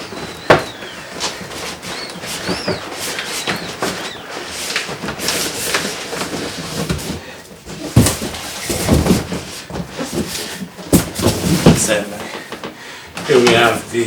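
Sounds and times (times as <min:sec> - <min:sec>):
cardboard rustling and scraping: 0:00.1 - 0:12.0.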